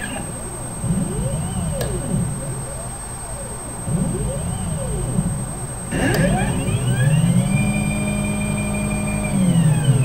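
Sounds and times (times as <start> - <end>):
stepper motors whining: 0.0 - 10.0.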